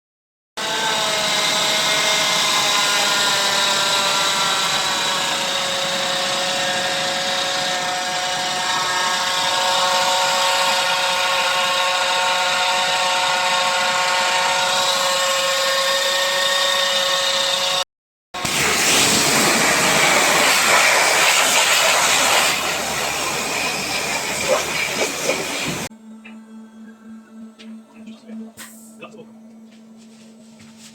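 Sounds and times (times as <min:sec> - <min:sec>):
engine running with high whine: 0:00.6 - 0:17.8, 0:18.4 - 0:30.9.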